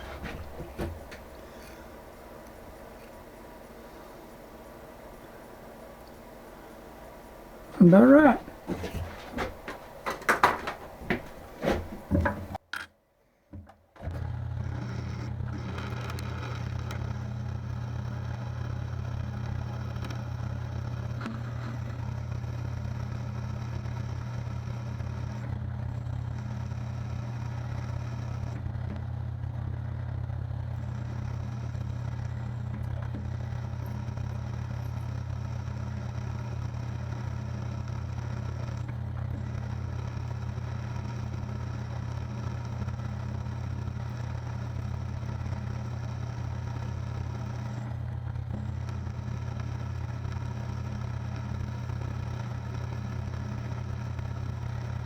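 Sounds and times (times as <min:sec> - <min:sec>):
machine tool motor humming: 0:00.0 - 0:12.6, 0:14.0 - 0:55.0.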